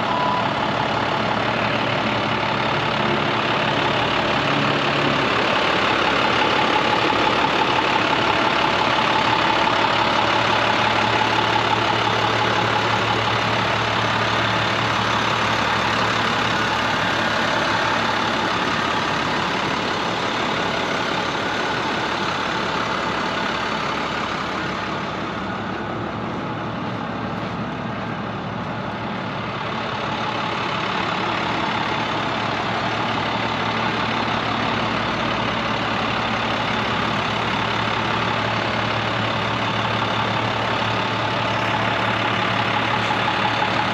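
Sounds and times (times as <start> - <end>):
diesel truck engine idling: 0.0 - 43.9.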